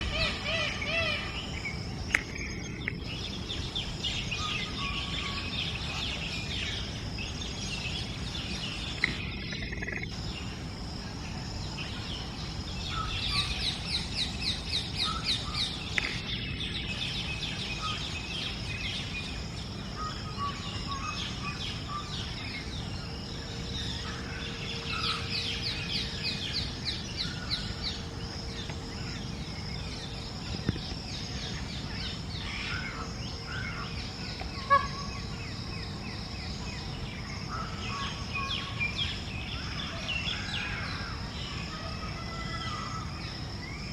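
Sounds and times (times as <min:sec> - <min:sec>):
outdoor background noise: 0:00.0 - 0:43.9
small birds chirping: 0:00.0 - 0:43.9.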